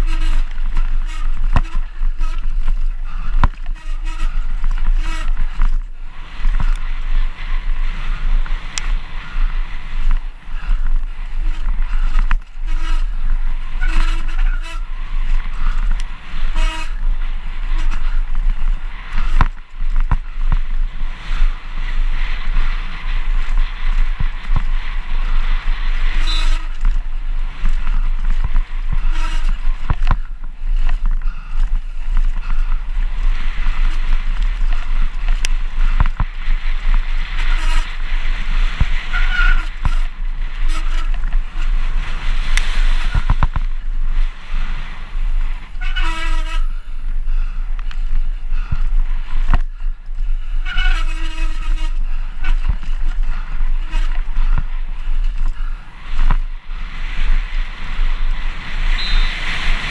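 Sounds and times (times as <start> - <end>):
bike rattling and knocking: 0.0 - 59.9
tyres on dirt trail: 0.0 - 59.9
wind buffeting microphone: 0.0 - 59.9.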